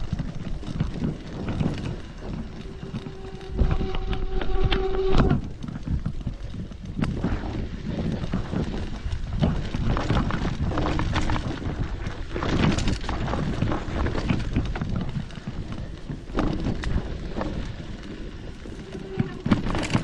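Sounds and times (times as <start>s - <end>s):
footsteps on a trail: 0.0s - 20.0s
wind rumbling on microphone: 0.0s - 20.0s.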